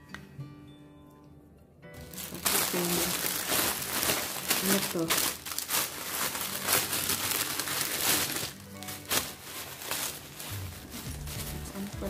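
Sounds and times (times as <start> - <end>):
background music: 0.0 - 12.0
plastic packaging crinkling: 2.0 - 12.0.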